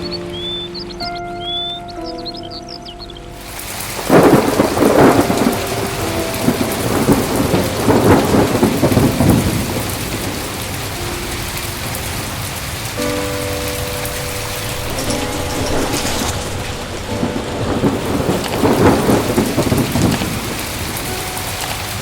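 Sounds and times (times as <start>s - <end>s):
heavy rain: 0.0s - 22.0s
thunder rolling: 3.3s - 22.0s.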